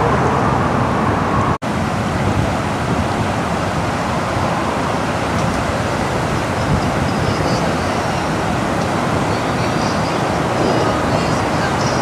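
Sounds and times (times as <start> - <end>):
creek rushing: 0.0 - 12.0.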